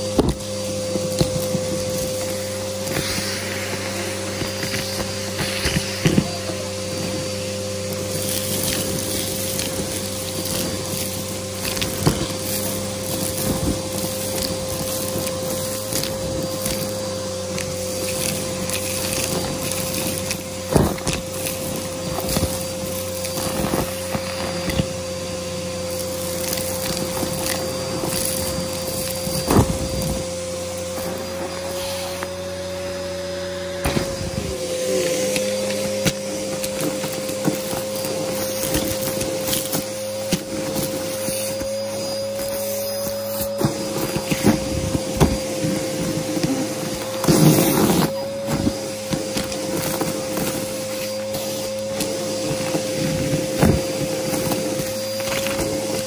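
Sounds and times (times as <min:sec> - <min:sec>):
debris crackling in vacuum: 0:00.0 - 0:56.0
vacuum cleaner motor hum: 0:00.0 - 0:56.0.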